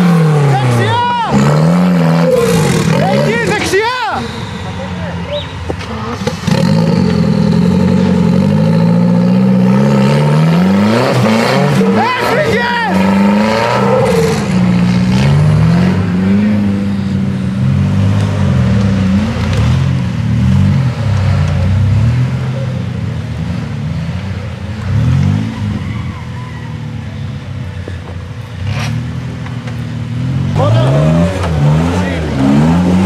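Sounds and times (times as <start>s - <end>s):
buggy engine revving hard: 0.0s - 4.4s, 5.9s - 22.8s, 23.4s - 26.4s, 30.1s - 33.0s.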